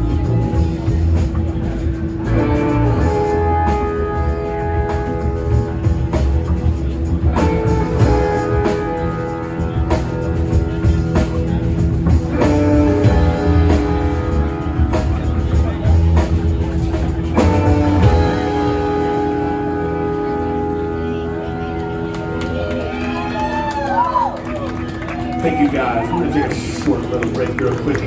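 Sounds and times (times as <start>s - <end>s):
electric guitar chords: 0.0s - 28.0s
live rock band playing: 0.0s - 28.0s.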